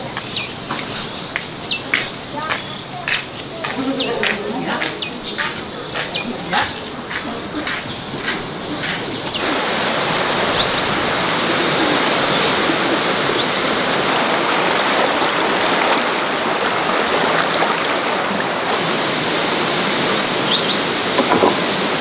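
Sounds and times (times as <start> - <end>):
flowing stream water: 0.0 - 22.0
insects trilling: 0.0 - 22.0.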